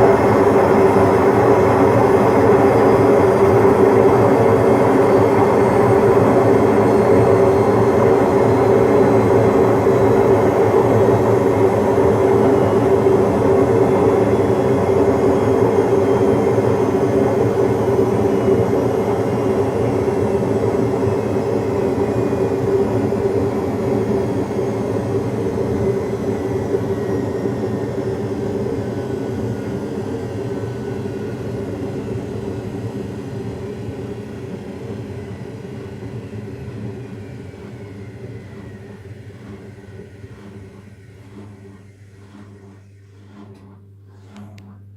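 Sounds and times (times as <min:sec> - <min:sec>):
washing machine spin whirring: 0:00.0 - 0:44.9.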